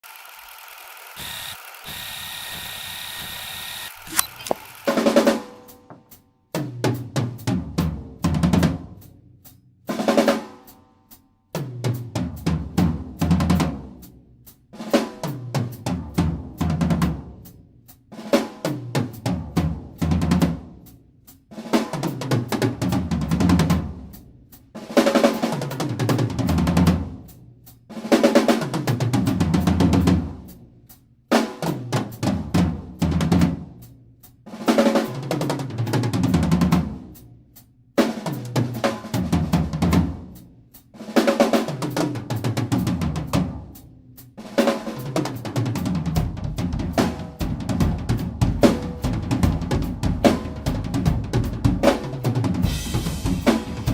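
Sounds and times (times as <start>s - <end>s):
drum kit fills: 4.9s - 53.9s.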